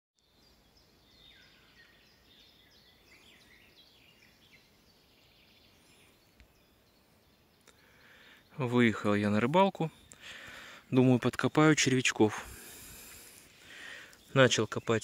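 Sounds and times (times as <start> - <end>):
faint bird chirps: 0.2 - 15.0
low background hiss: 0.2 - 15.0.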